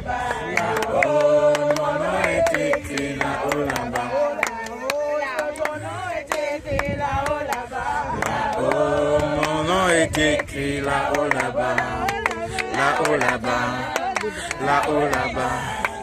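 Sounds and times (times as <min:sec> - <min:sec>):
congregation singing unaccompanied: 0:00.0 - 0:16.0
hand clapping: 0:00.3 - 0:16.0.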